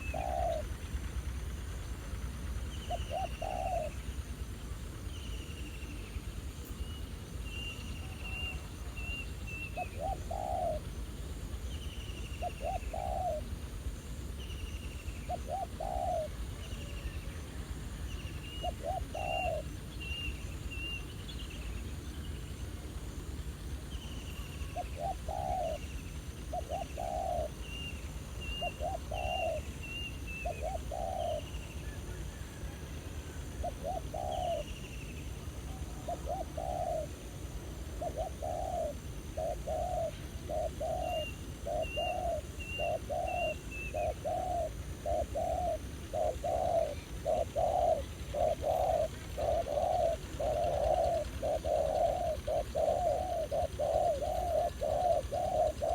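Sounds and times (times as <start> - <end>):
doves cooing: 0.0 - 5.0, 6.2 - 14.4, 15.0 - 21.2, 21.8 - 55.9.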